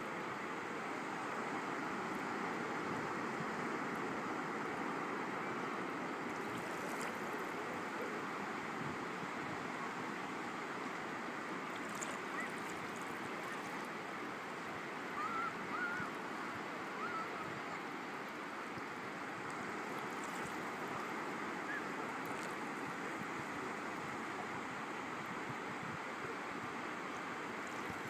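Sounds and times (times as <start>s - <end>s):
shallow water rushing over sand: 0.0s - 28.0s.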